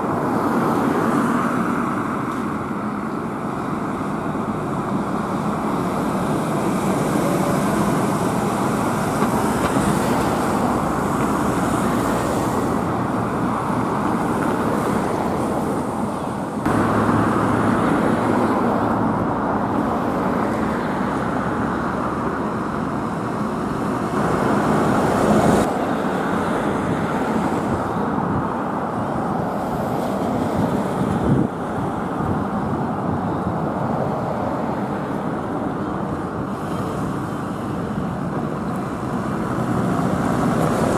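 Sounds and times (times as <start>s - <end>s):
bus approaching: 0.0s - 40.9s
road noise: 0.0s - 40.9s.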